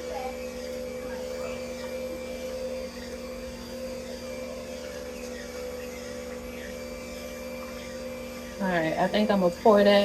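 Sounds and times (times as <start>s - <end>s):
electric juicer motor humming: 0.0s - 10.0s.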